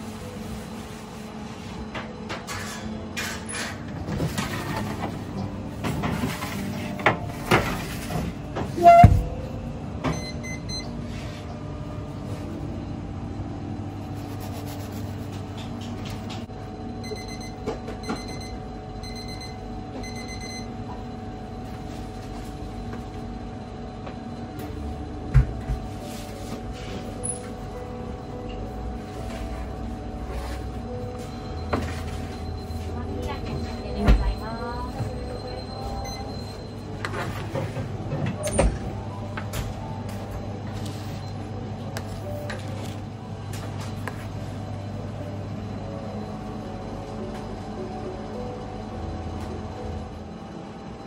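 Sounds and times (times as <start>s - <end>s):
equipment hum: 0.0s - 51.0s.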